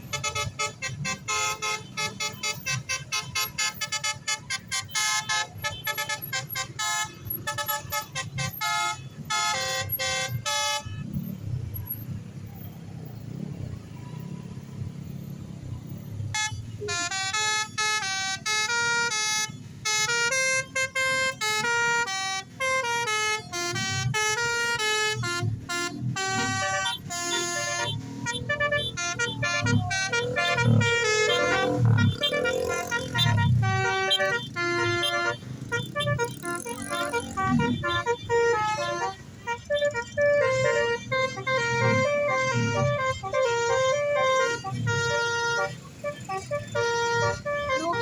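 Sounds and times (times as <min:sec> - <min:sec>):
multi-tone bus air horn melody: 0:00.0 - 0:11.4, 0:16.2 - 0:48.0.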